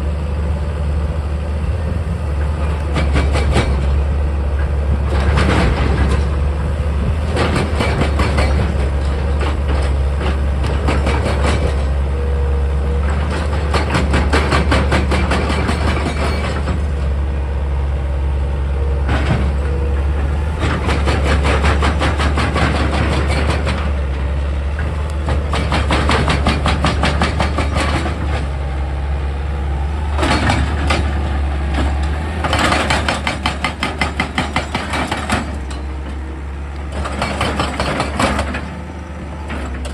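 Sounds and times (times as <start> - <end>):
excavator engine humming: 0.0 - 39.9.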